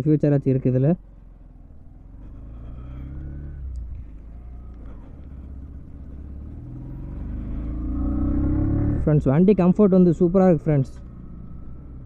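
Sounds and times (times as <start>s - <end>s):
motorcycle engine revving: 1.0s - 12.0s.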